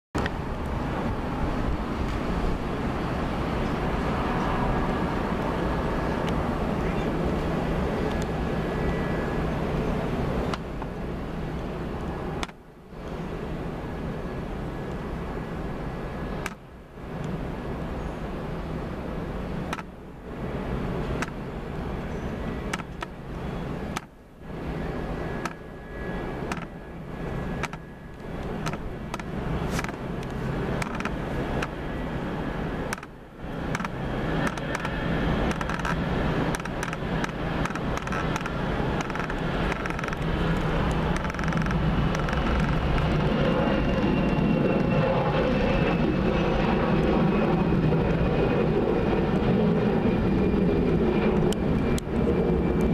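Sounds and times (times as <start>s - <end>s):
jet engines roaring at takeoff: 0.2s - 52.9s.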